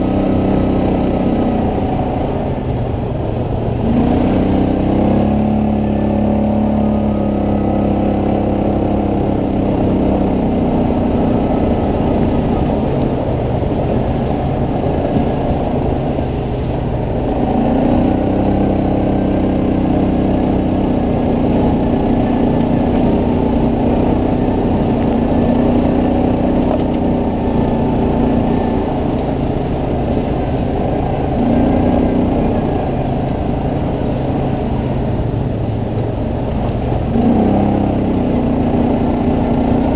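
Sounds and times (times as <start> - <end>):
atv engine revving: 0.0 - 39.9
steady low rumble: 0.0 - 39.9.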